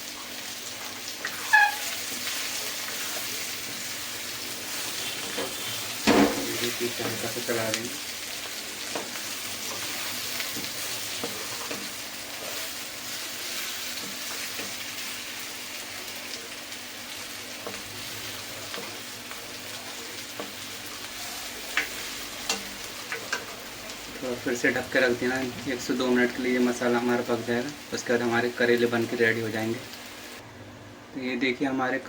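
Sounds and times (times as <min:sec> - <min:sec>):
vegetables sizzling in hot oil: 0:00.0 - 0:30.4.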